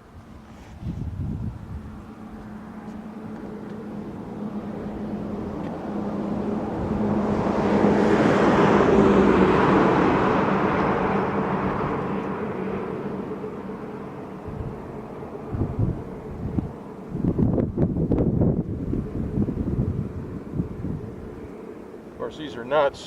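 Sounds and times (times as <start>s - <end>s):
motor vehicle passing by: 0.0s - 23.0s.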